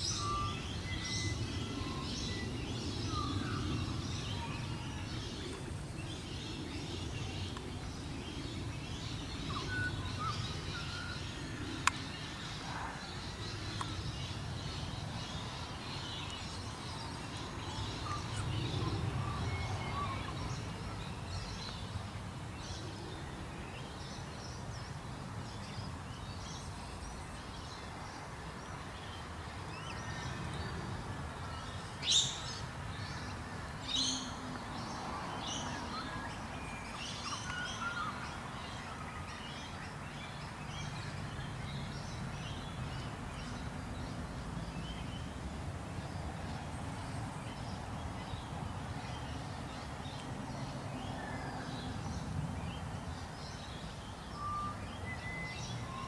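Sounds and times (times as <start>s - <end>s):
steady outdoor noise: 0.0s - 56.0s.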